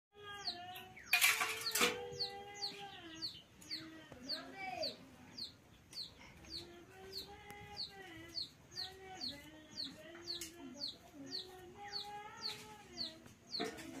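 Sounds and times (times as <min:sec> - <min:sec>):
chickens clucking: 0:00.2 - 0:14.0
high falling chirp: 0:00.4 - 0:13.6.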